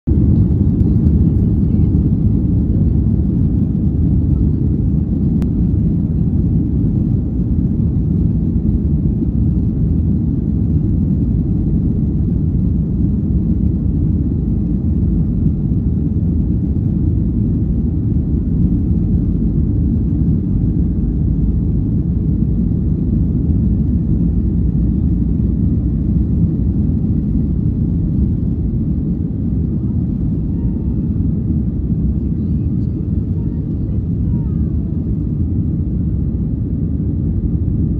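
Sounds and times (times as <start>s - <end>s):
jet engines rumbling: 0.1s - 37.9s.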